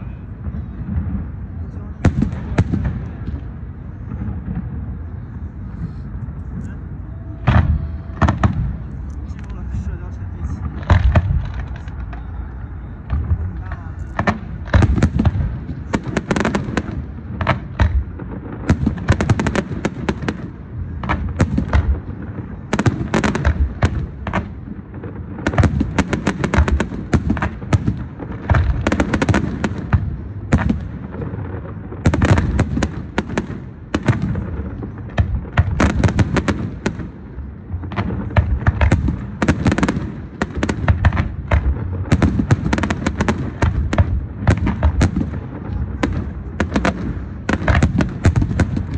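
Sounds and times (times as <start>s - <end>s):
fireworks booming and crackling: 0.0s - 48.9s.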